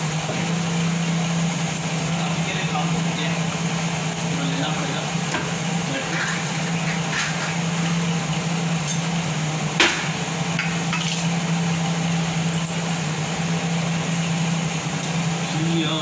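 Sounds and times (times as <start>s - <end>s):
gas burner hissing: 0.0s - 16.0s
water boiling in a pot: 0.0s - 16.0s.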